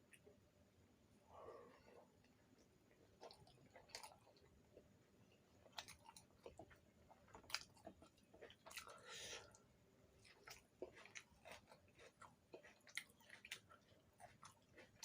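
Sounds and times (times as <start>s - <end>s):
person chewing food: 1.3s - 15.0s.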